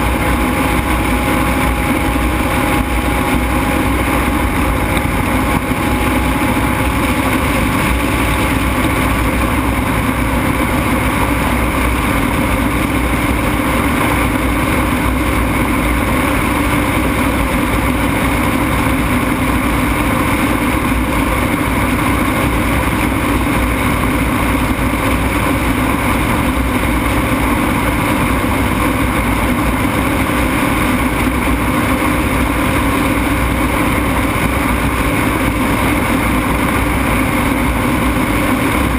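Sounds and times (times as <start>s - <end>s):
aircraft engine droning: 0.0s - 38.9s
rushing air: 0.0s - 38.9s.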